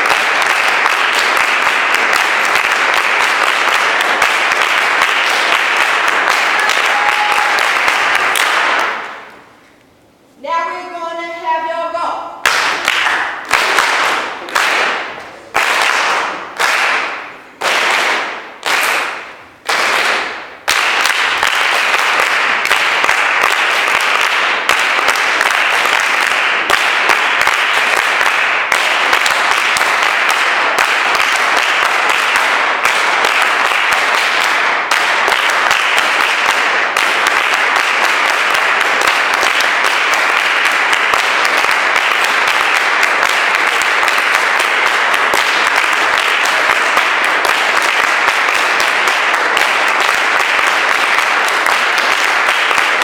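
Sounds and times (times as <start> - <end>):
audience clapping in unison: 0.0 - 9.6, 12.4 - 53.0
continuous applause: 0.0 - 9.6, 12.4 - 53.0.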